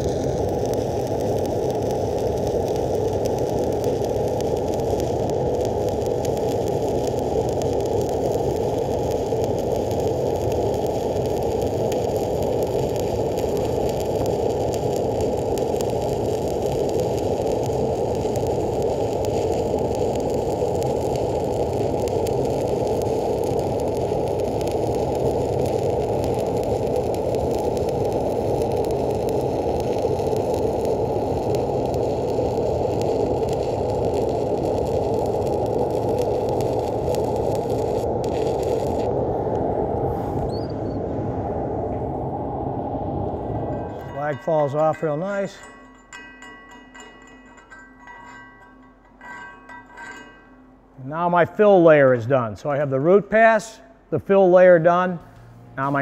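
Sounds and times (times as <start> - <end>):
welding arc crackling hiss: 0.0 - 41.0, 43.2 - 56.0.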